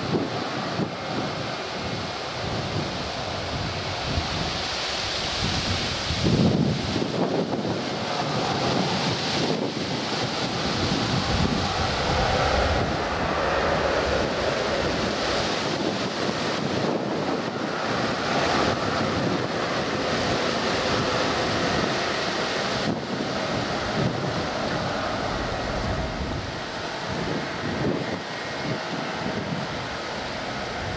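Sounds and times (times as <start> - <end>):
jet engines roaring: 0.0 - 30.9
wind buffeting microphone: 0.0 - 30.9.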